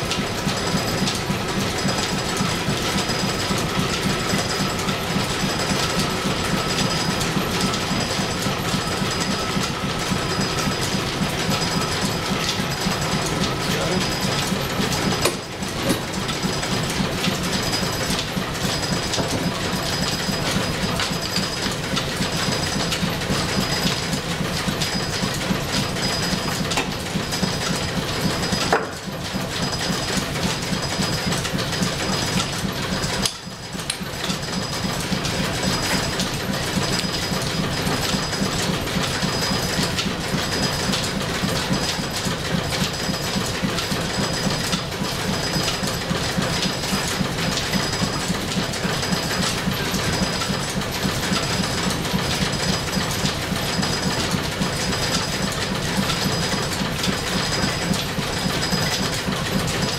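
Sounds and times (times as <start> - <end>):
line shaft and belts clattering: 0.0 - 59.9.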